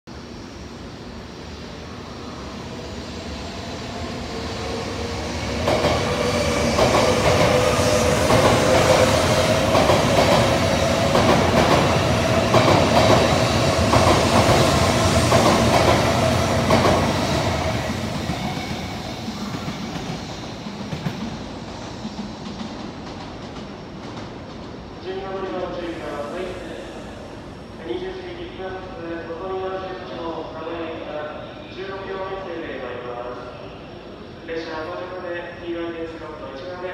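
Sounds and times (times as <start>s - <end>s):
bullet train passing: 0.1s - 36.9s
steady train whine: 0.1s - 36.9s.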